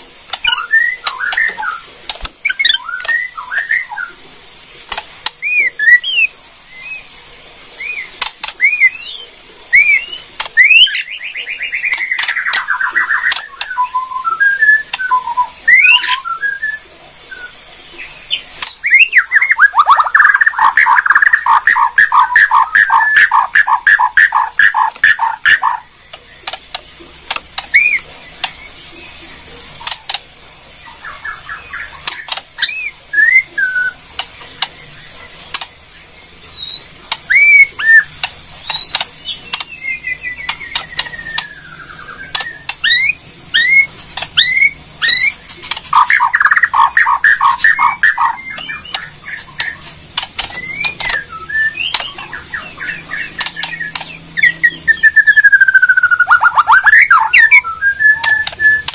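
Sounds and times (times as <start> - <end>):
bird calling with clicks and whistles: 0.2 - 4.2, 4.9 - 7.1, 7.8 - 29.2, 29.8 - 35.8, 36.4 - 58.9.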